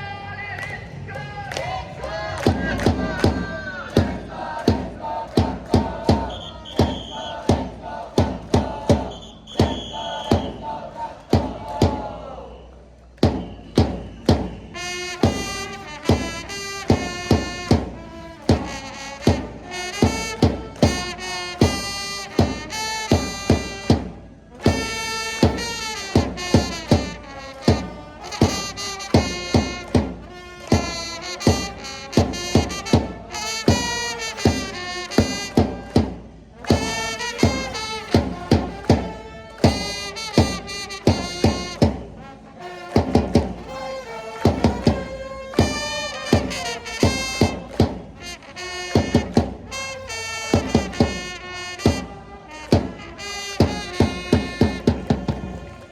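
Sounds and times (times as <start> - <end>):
trumpets playing brass melody: 0.0 - 12.4, 14.7 - 55.9
fans singing along: 0.0 - 55.9
hard drum beats: 0.9 - 12.2, 13.2 - 42.2, 42.8 - 55.7.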